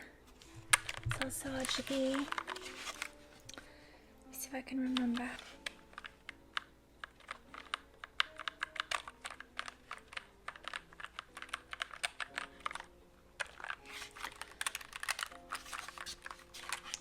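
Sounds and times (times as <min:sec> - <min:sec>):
typing on mechanical keyboard: 0:00.6 - 0:03.1, 0:04.8 - 0:17.0.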